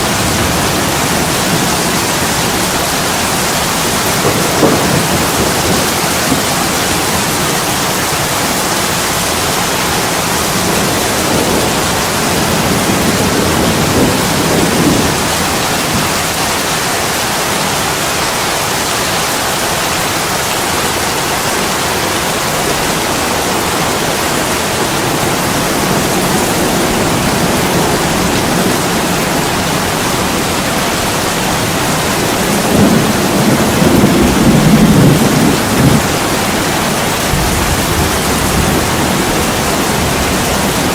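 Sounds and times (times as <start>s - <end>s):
heavy rain on a window: 0.0s - 40.9s.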